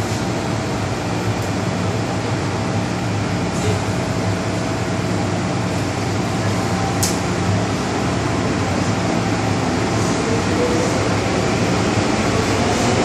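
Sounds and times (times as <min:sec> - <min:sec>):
train carriage rushing: 0:00.0 - 0:13.0.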